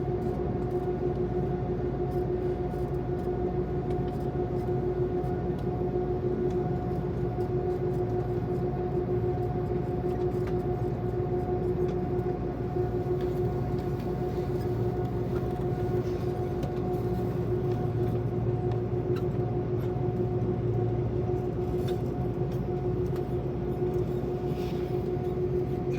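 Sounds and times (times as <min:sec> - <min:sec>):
airliner cabin drone: 0:00.0 - 0:25.9.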